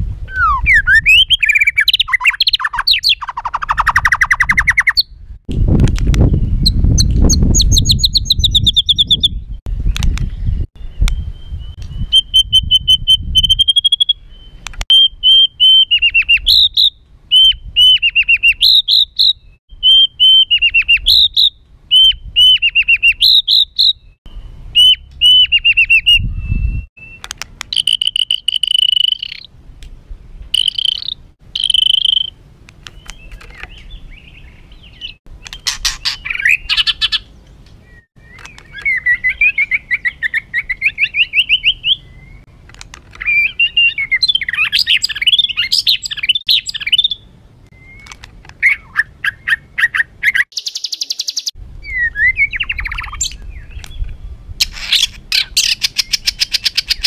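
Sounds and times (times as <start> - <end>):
bird singing rapid trills: 0.3 - 5.2, 6.3 - 29.5, 30.4 - 42.5, 43.2 - 57.0.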